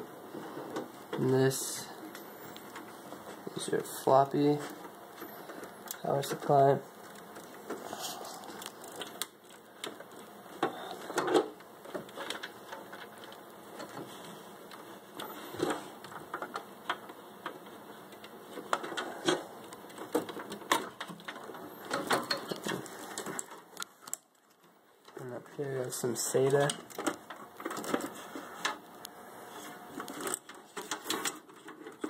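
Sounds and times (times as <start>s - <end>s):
cables and connectors rattling: 0.3s - 28.9s, 29.5s - 32.0s.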